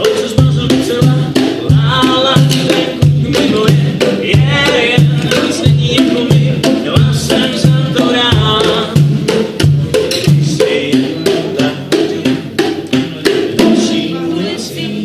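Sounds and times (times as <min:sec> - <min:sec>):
steady drum beat: 0:00.0 - 0:14.4
live band playing: 0:00.0 - 0:15.0.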